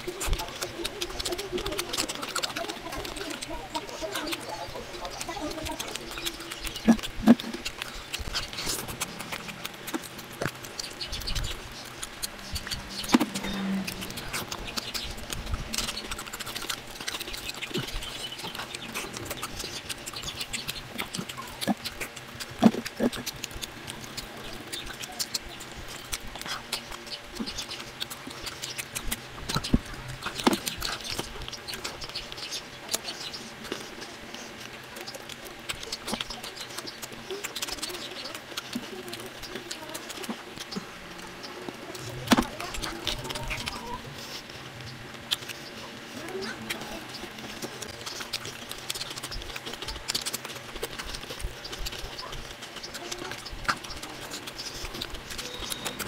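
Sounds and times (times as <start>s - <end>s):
fingers crackling fried fish: 0.0s - 56.0s
man eating with wet smacks: 0.0s - 56.0s.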